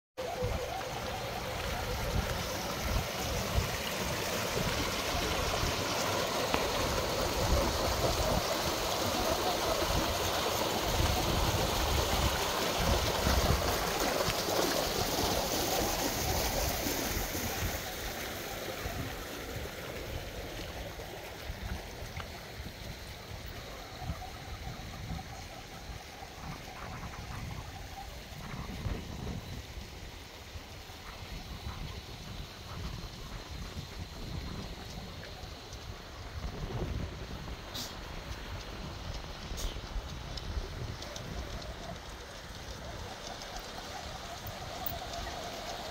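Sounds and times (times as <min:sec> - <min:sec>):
water trickling and gurgling: 0:00.2 - 0:45.9.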